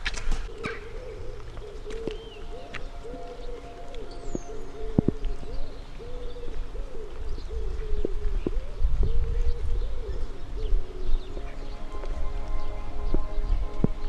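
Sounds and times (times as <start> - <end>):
pigeon cooing: 0.5 - 12.4.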